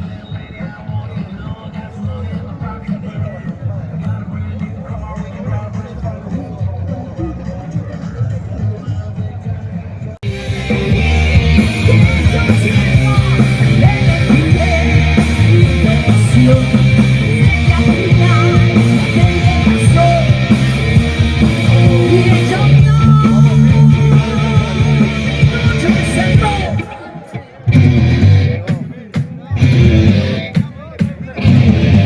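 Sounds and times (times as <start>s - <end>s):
punk rock music with singing: 0.0s - 32.0s.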